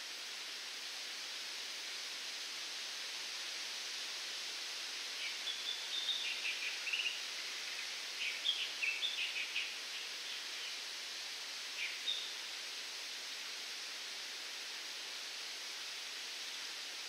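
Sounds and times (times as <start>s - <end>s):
wind through palm fronds: 0.0s - 17.0s.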